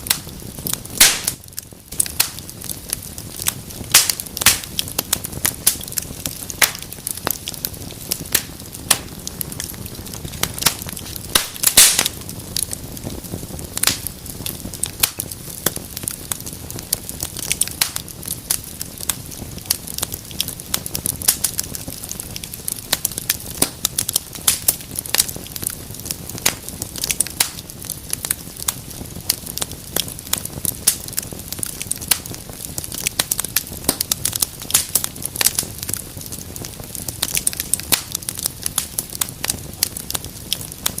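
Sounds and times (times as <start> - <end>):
low rumble of flames: 0.0 - 41.0
wood fire crackling: 0.0 - 41.0.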